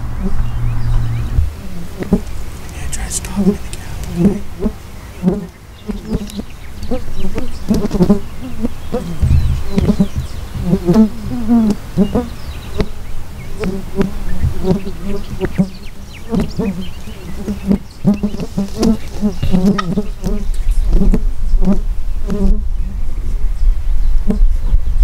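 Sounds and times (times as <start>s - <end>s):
insect buzzing: 0.2s - 22.7s.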